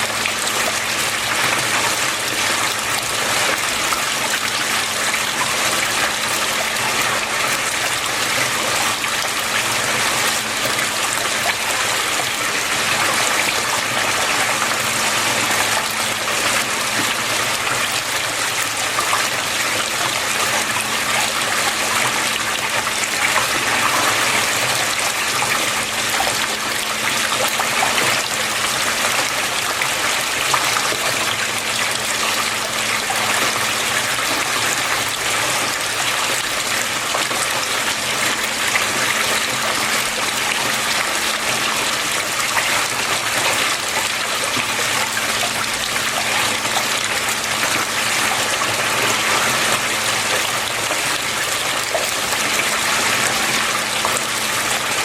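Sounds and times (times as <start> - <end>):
water flowing and splashing: 0.0 - 55.0.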